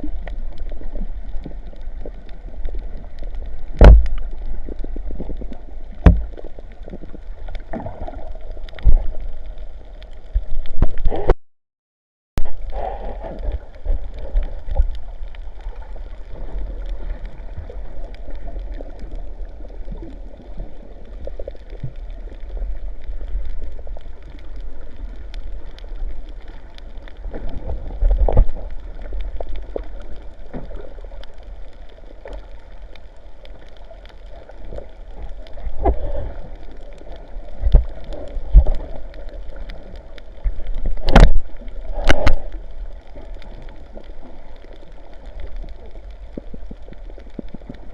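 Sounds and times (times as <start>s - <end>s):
sea water sloshing and gurgling: 0.0s - 11.3s, 12.4s - 47.9s.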